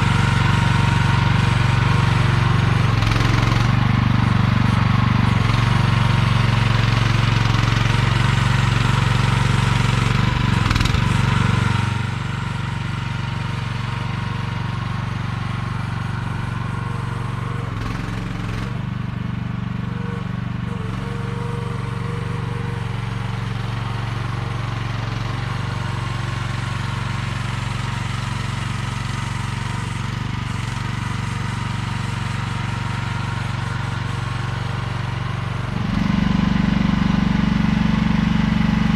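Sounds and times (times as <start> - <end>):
small excavator engine running: 0.0 - 38.9.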